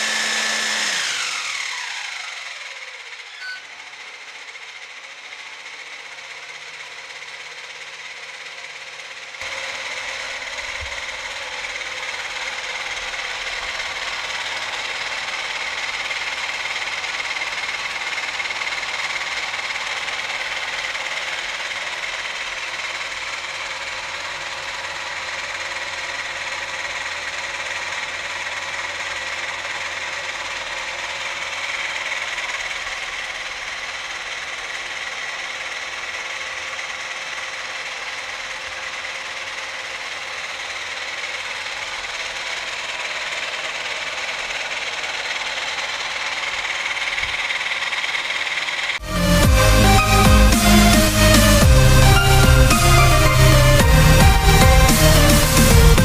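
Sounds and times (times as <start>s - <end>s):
model engine whirring: 0.0s - 56.0s.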